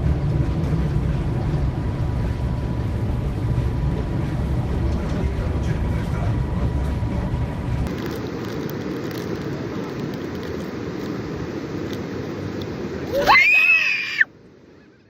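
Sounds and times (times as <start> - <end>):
storm wind: 0.0 - 14.7
sea: 0.0 - 15.0.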